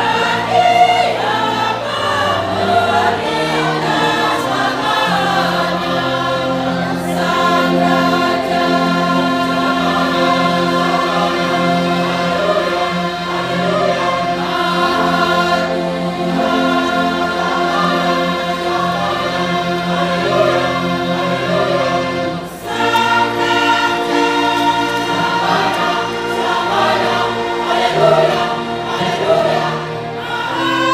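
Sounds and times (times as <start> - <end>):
choir singing in harmony: 0.0 - 30.9.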